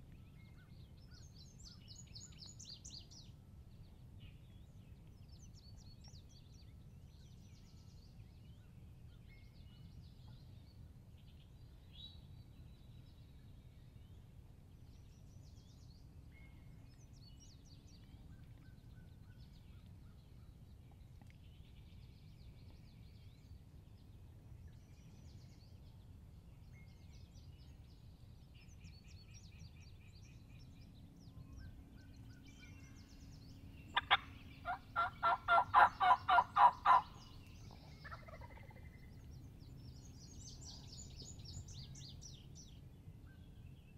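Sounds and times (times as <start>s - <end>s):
songbirds chirping and trilling: 0.0s - 43.9s
low steady rumble: 0.1s - 43.9s.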